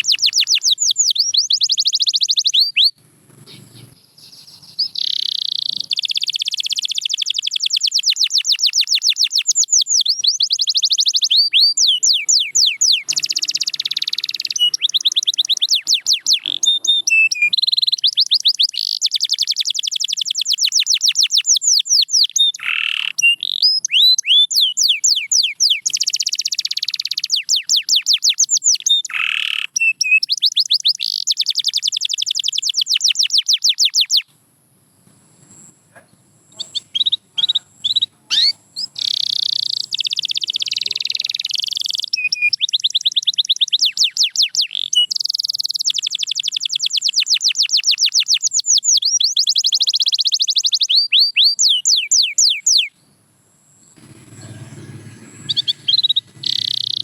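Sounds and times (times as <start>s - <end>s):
canary singing fast trills: 0.0s - 34.3s, 35.4s - 57.0s.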